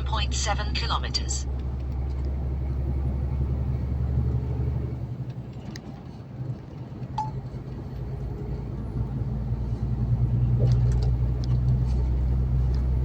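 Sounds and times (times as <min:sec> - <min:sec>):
diesel engine drone: 0:00.0 - 0:13.0
road rumble: 0:00.0 - 0:13.0.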